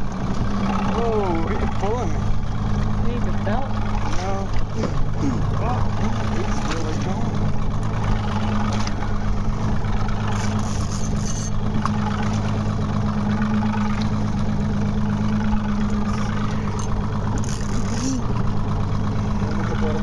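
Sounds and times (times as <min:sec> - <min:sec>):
boat engine drone: 0:00.0 - 0:20.0
water rushing: 0:00.0 - 0:20.0
wind: 0:00.0 - 0:20.0.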